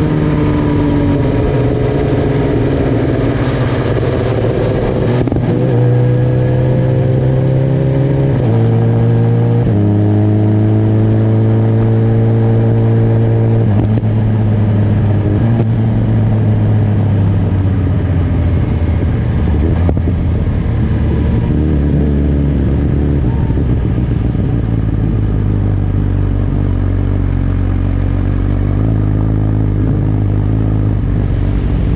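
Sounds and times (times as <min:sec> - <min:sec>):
motorcycle engine running: 0:00.0 - 0:07.6, 0:08.6 - 0:31.9.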